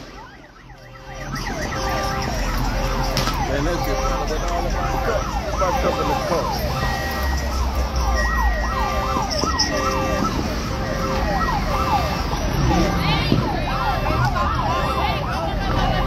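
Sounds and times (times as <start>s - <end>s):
tires squealing: 1.0s - 16.0s.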